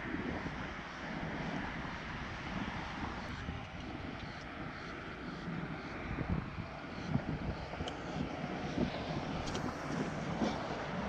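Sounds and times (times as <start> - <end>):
highway traffic rumble: 0.0 - 11.0.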